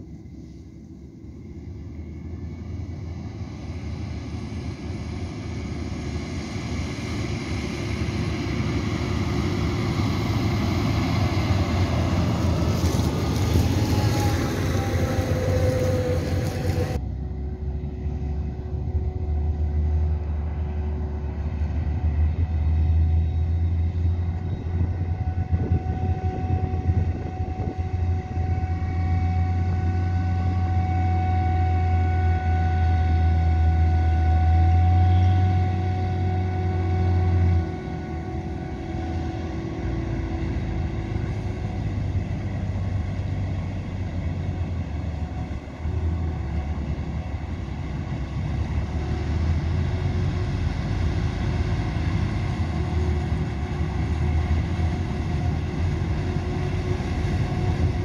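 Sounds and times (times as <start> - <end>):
heavy engine drone: 0.0 - 58.0
machine whine: 0.0 - 58.0.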